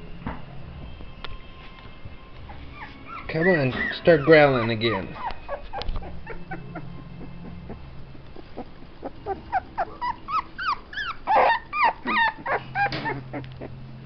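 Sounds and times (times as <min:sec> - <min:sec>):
puppies whimpering and yelping: 0:02.4 - 0:14.0.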